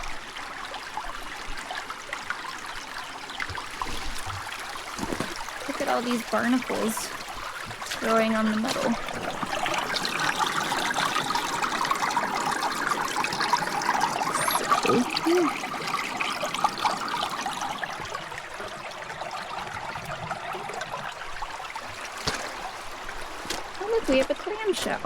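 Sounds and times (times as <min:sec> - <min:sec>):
water trickling among rocks: 0:00.0 - 0:25.0.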